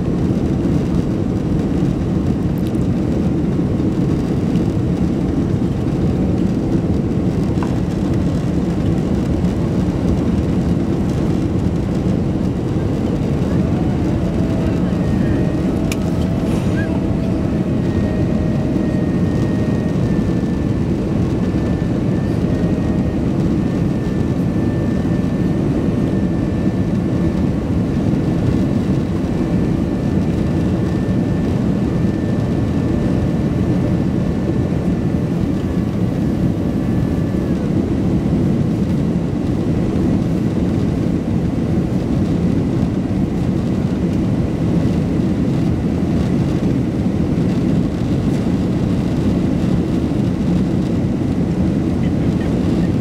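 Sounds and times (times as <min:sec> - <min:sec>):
jet engine rumble and airflow: 0:00.0 - 0:53.0.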